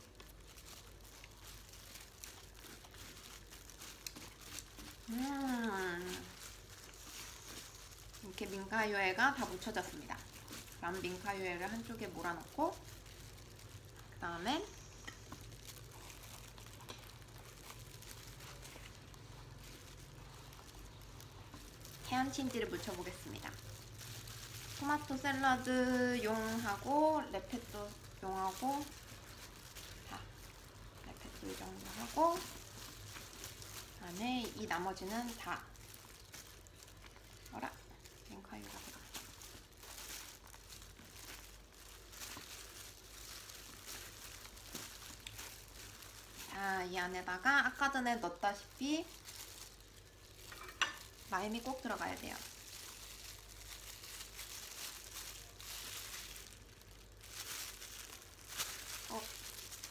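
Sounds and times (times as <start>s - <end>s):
low steady hum: 0.0s - 59.9s
plastic gloves rustling: 0.0s - 59.9s.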